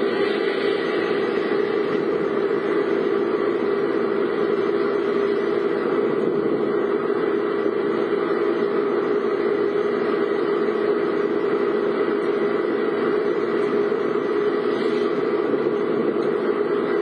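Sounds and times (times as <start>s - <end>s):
car engine droning inside car: 0.0s - 17.0s.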